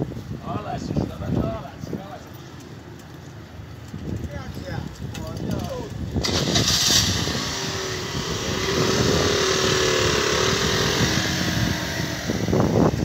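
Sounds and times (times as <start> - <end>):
wind rushing on microphone: 0.0 - 2.2, 3.8 - 13.0.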